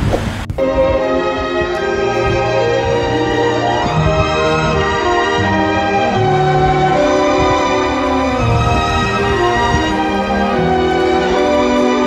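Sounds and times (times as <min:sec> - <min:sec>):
orchestral strings: 0:00.6 - 0:12.0.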